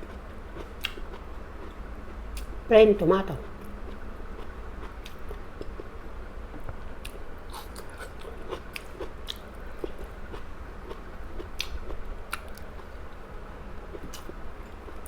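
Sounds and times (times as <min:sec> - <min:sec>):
person chewing food: 0:00.0 - 0:02.6, 0:03.4 - 0:13.2, 0:13.9 - 0:15.0
steady low hum: 0:00.0 - 0:15.0.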